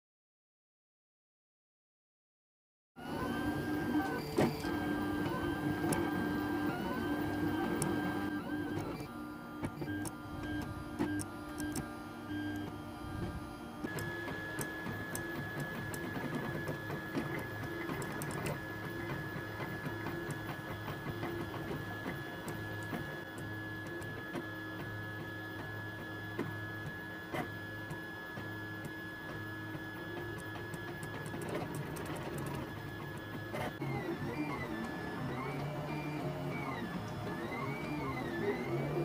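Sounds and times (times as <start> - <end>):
stepper motors whirring: 3.0 - 25.0, 26.4 - 39.0.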